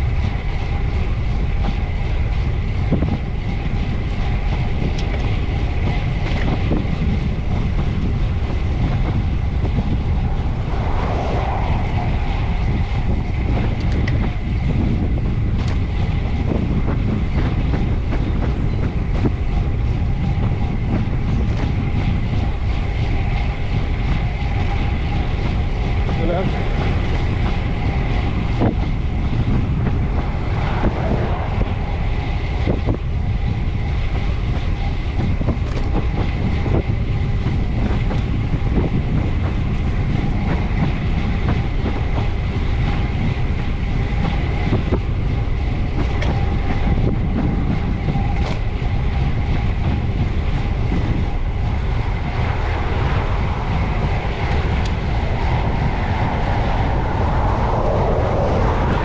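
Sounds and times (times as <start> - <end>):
road rumble: 0.0 - 59.0
wind rush: 0.0 - 59.0.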